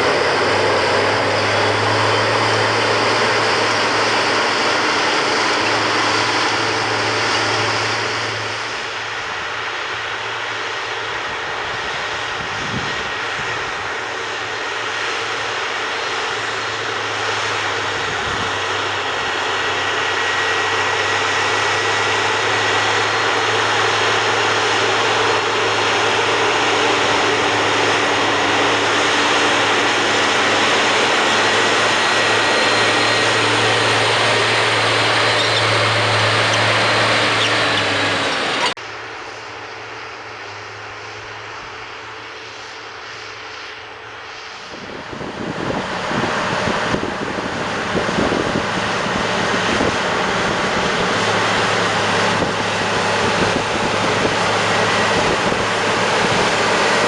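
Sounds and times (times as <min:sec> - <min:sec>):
tractor diesel engine under load: 0:00.0 - 0:39.5, 0:44.5 - 0:57.0.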